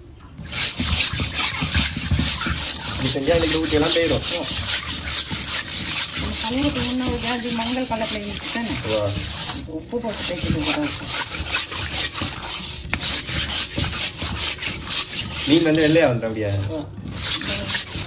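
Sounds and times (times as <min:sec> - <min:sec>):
hands scrubbing fish with salt: 0:00.4 - 0:18.0.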